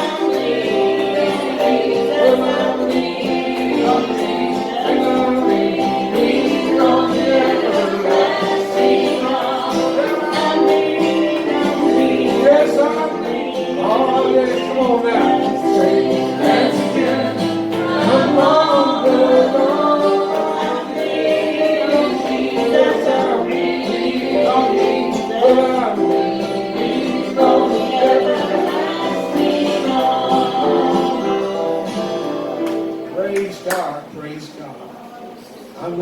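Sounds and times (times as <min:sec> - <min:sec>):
choir singing gospel song: 0:00.0 - 0:33.6
instrumental accompaniment: 0:00.0 - 0:33.8.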